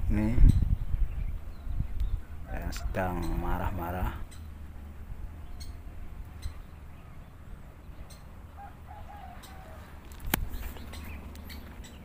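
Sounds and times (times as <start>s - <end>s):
woodpecker alarm calls: 0.5s - 12.0s.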